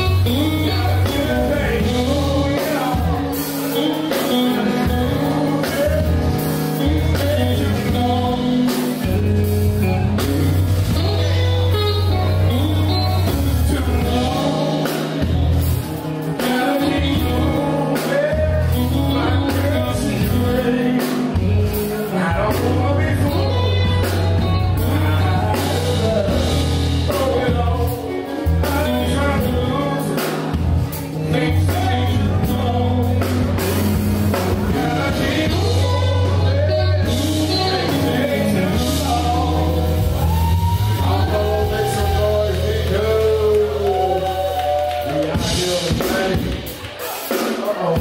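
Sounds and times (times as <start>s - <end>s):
drums with cymbals: 0.0s - 41.0s, 45.3s - 48.0s
heavy bass line: 0.0s - 46.9s
man singing: 0.0s - 48.0s.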